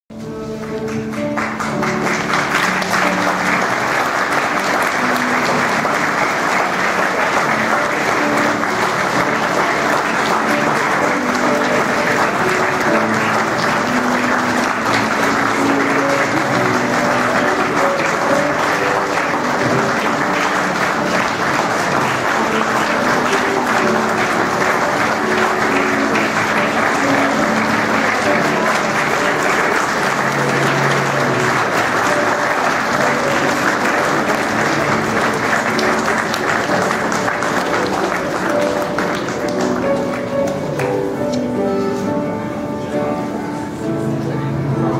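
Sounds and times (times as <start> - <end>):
congregation applauding: 0.4 - 42.0.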